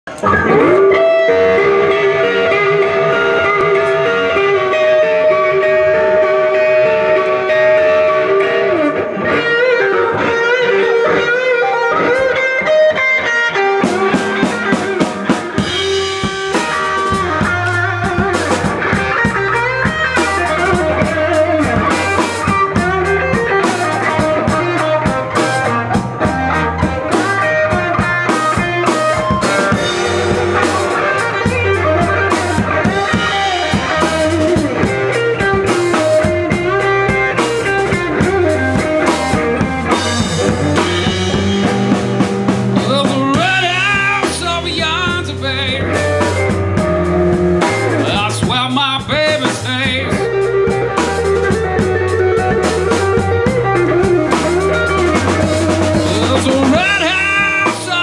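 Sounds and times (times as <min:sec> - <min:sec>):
rock band playing: 0:00.0 - 0:58.0
bass line: 0:00.1 - 0:58.0
drum kit: 0:00.1 - 0:58.0
electric guitar playing: 0:00.1 - 0:58.0.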